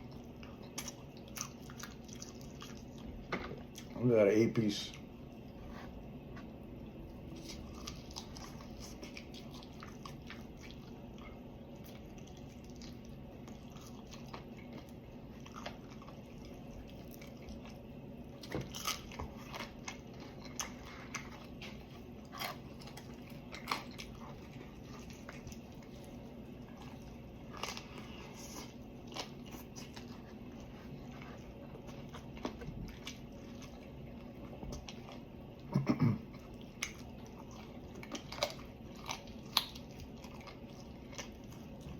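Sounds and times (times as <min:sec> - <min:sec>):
wet chewing: 0:00.0 - 0:04.0, 0:04.9 - 0:41.9.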